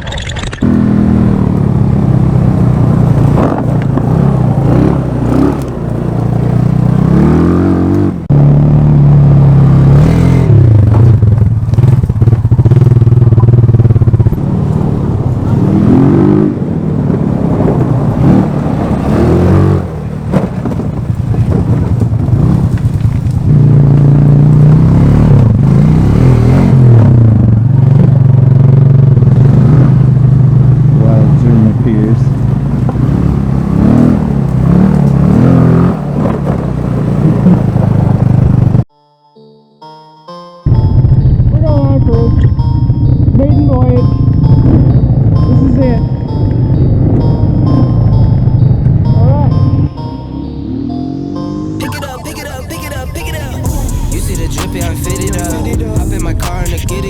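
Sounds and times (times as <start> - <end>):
scooter engine revving: 0.6 - 38.9, 40.6 - 57.0.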